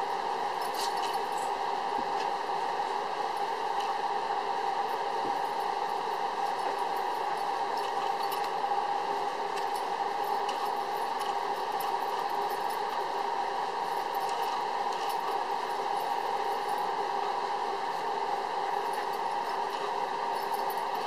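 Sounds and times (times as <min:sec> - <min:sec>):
droning machine hum: 0:00.0 - 0:21.0.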